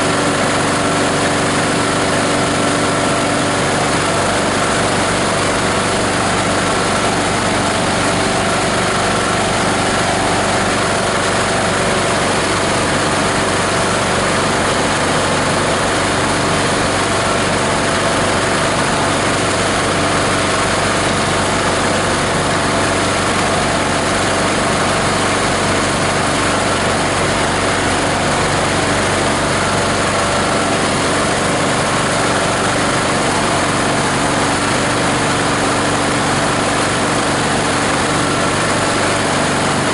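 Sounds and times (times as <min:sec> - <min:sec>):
diesel engine driving grinder: 0:00.0 - 0:39.9.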